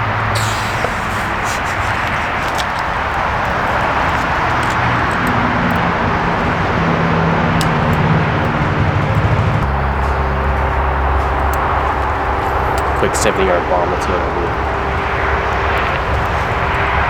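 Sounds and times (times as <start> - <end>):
steady rushing noise: 0.0 - 17.0
vehicle engine humming: 0.0 - 17.0.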